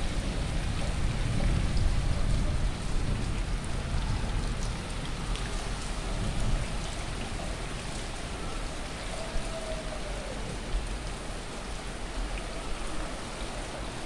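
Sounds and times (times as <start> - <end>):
raindrops ticking on surfaces: 0.0 - 14.0
steady rain hissing: 0.0 - 14.0.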